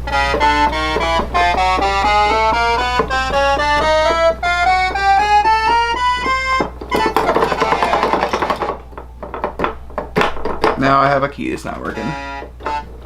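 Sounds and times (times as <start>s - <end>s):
keyboard notes rising: 0.0s - 13.0s
clattery keyboard passage: 0.1s - 11.0s.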